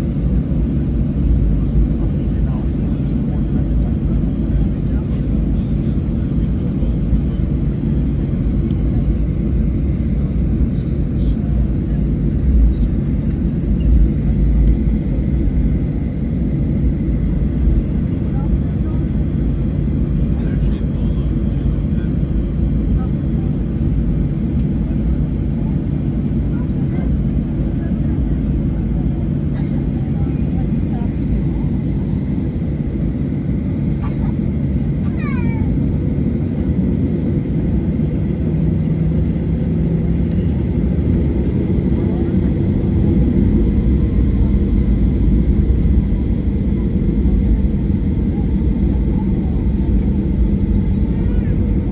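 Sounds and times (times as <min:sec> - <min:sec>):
jet engine rumble in cabin: 0:00.0 - 0:51.9.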